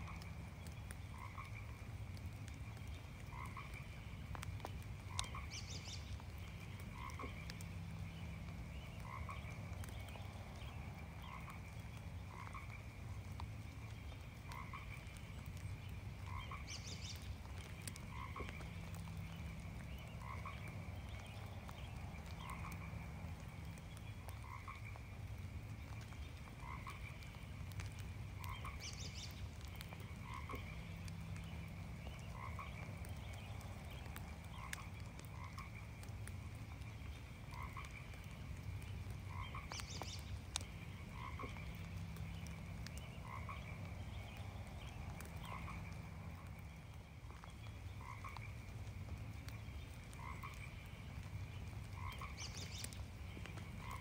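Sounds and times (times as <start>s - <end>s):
light rain hiss: 0.0s - 54.0s.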